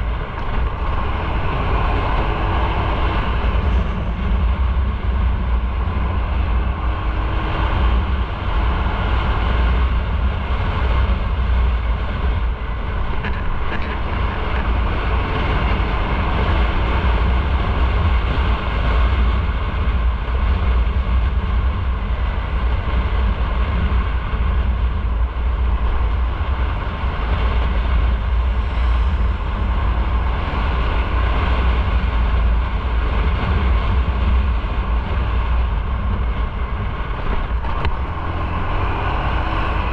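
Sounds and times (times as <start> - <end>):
motorcycle engine and road noise: 0.0 - 39.9
wind rumble on microphone: 0.0 - 39.9.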